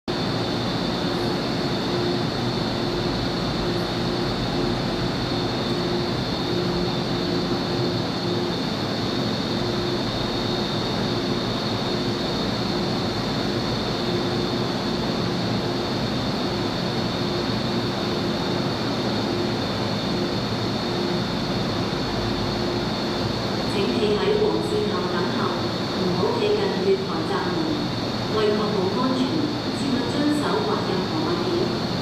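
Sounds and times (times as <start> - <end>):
standing train hum: 0.1 - 32.0.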